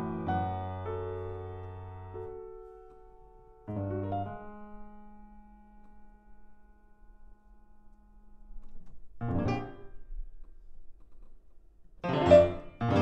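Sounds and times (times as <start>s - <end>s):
grand piano chords: 0.0s - 10.8s, 12.0s - 13.0s.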